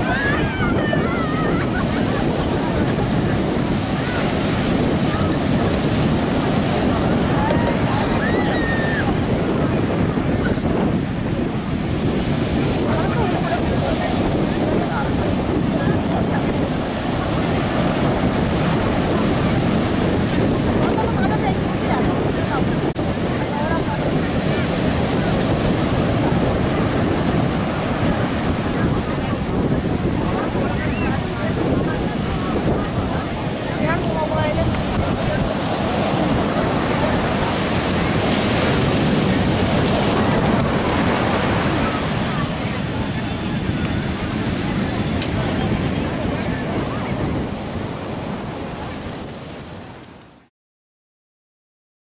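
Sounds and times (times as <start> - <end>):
wind buffeting microphone: 0.0 - 50.3
surf washing on beach: 0.0 - 50.5.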